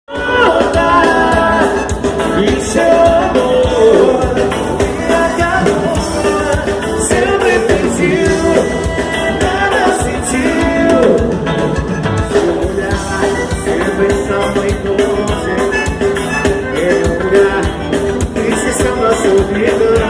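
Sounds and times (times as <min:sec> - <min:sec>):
dance music with singing: 0:00.1 - 0:20.0.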